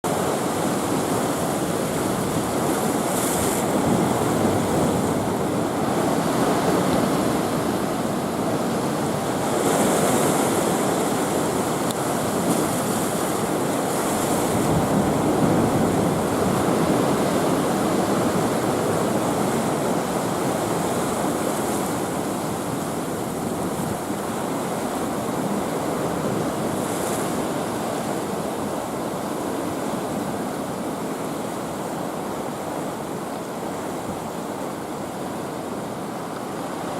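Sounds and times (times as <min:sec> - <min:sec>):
waves surging and washing: 0:00.0 - 0:36.9.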